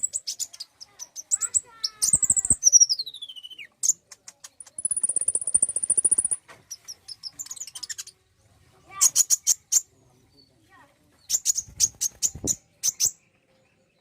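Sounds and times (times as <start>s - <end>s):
bird song with trill and chips: 0.0s - 14.0s.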